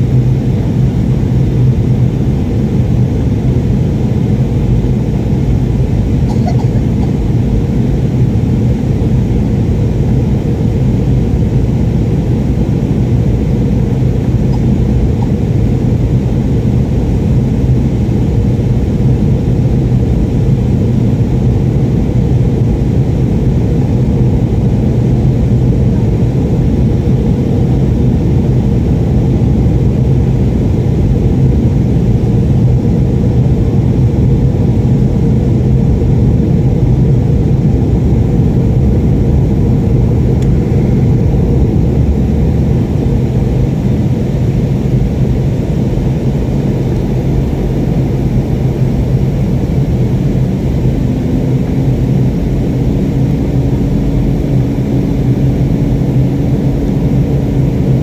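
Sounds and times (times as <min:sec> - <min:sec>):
constant low hum: 0:00.0 - 0:58.0
jet cabin engine drone: 0:00.0 - 0:58.0.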